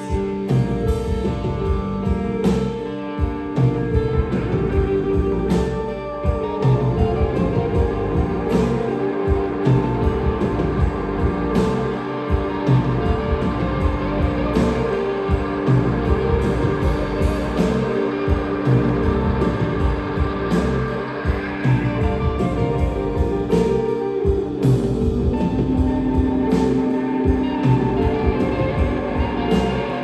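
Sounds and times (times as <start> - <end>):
rock band playing: 0.0 - 30.0.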